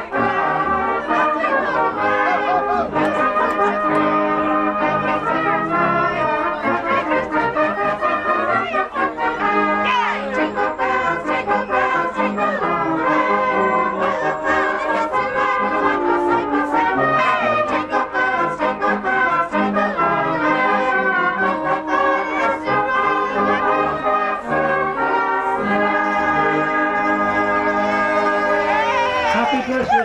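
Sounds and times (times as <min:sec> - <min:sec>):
brass band playing carol: 0:00.0 - 0:30.0
crowd singing along: 0:00.0 - 0:30.0.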